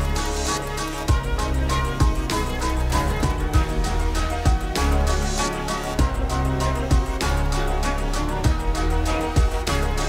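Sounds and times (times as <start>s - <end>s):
music with deep bass and drums: 0.0s - 10.0s.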